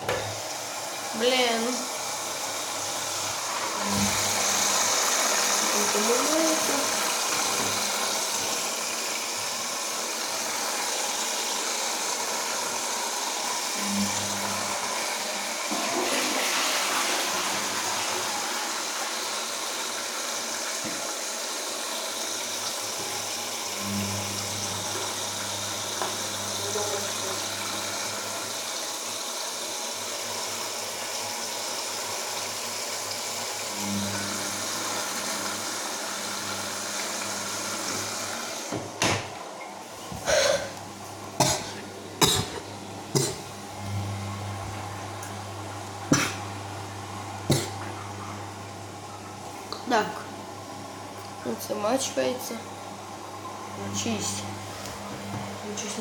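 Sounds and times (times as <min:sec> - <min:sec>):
washing machine motor hum: 0:00.0 - 0:56.0
washing machine water rushing: 0:00.0 - 0:56.0.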